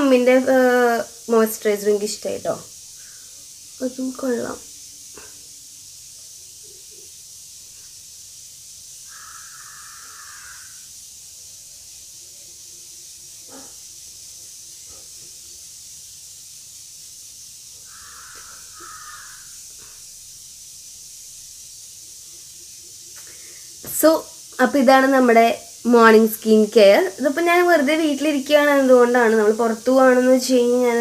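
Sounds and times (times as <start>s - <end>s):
faint high-pitched sounds: 0.0s - 31.0s
steady high hiss: 0.0s - 31.0s.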